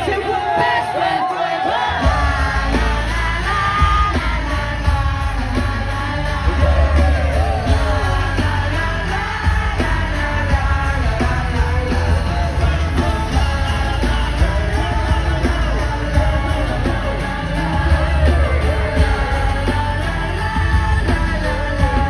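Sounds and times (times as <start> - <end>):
audience yelling: 0.0 - 22.0
pop concert music: 0.0 - 22.0.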